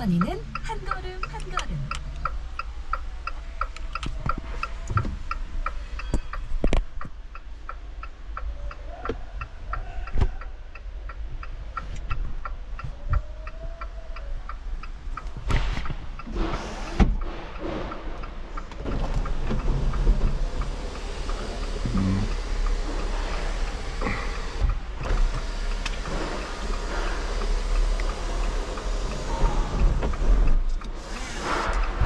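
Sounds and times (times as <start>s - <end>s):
rapid electronic ticking: 0.0s - 8.8s, 9.4s - 32.0s
steady low hum: 0.0s - 32.0s.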